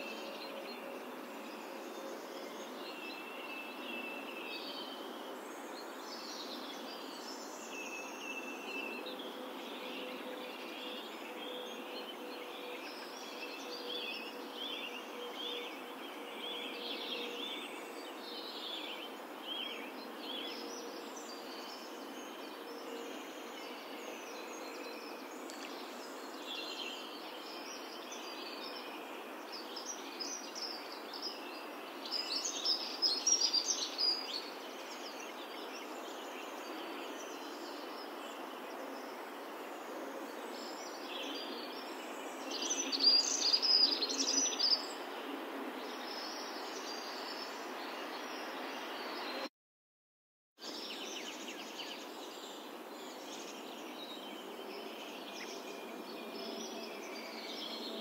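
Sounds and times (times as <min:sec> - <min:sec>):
birds chirping and singing: 0:00.0 - 0:49.4, 0:50.6 - 0:58.0
outdoor background hiss: 0:00.0 - 0:49.5, 0:50.6 - 0:58.0.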